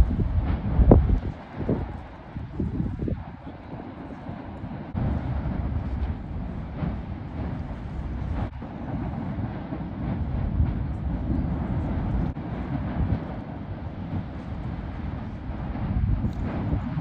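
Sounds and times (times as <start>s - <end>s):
lava fountain rushing rumble: 0.0s - 17.0s.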